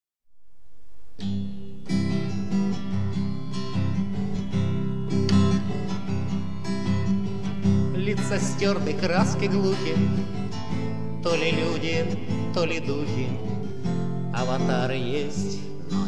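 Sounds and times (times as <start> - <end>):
acoustic guitar strumming: 1.1 - 16.0.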